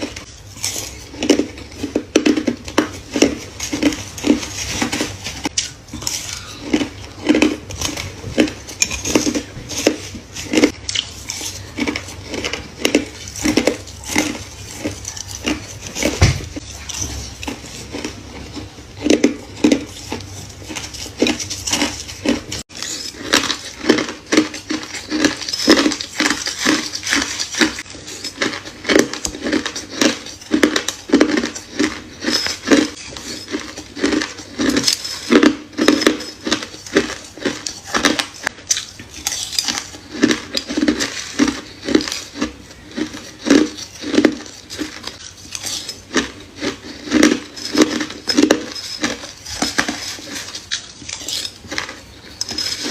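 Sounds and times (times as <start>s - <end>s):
chewing crushed ice: 0.0s - 52.9s.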